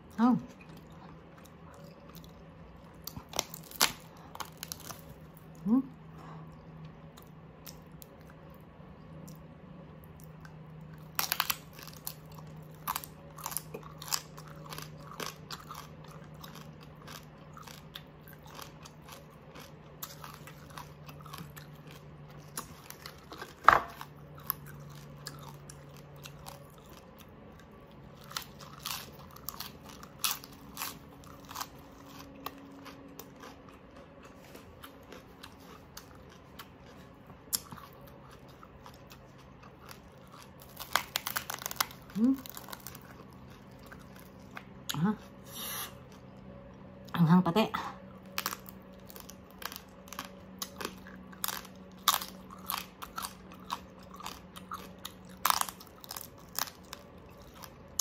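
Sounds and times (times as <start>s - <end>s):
pork skin crunching: 0.7s - 5.6s, 10.1s - 46.3s, 48.2s - 58.0s.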